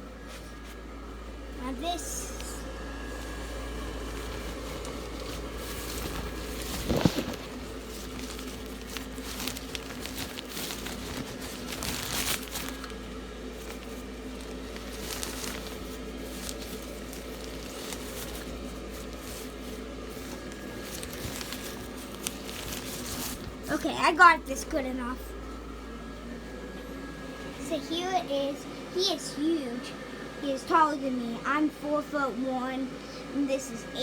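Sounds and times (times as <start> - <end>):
crinkly material rustling: 0.0 - 28.2
blower fan humming: 0.0 - 34.0.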